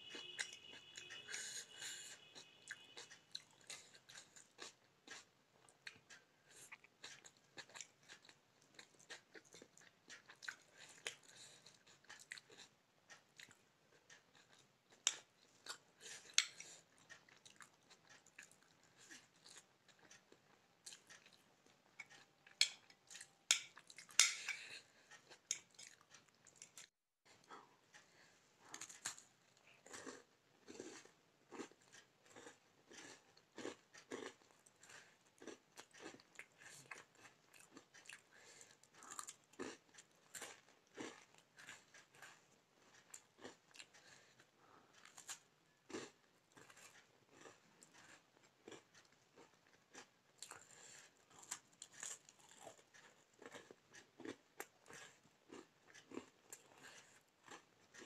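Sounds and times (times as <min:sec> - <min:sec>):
person chewing crisp biscuit: 0:00.0 - 0:58.0.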